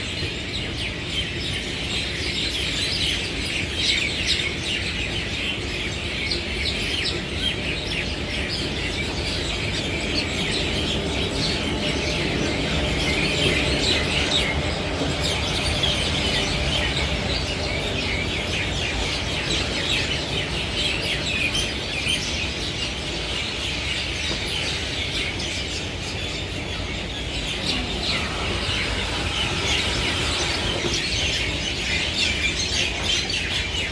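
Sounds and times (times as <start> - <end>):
many small birds chirping: 0.1 - 33.9.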